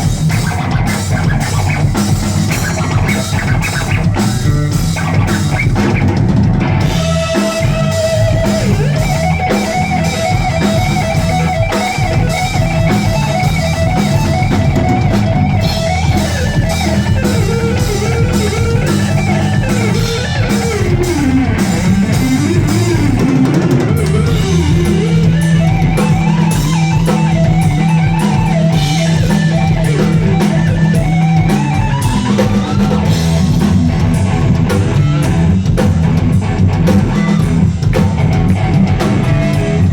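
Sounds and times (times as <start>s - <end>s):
bass guitar: 0.0s - 39.9s
drum kit: 0.0s - 39.9s
electric guitar lead lines: 0.0s - 39.9s.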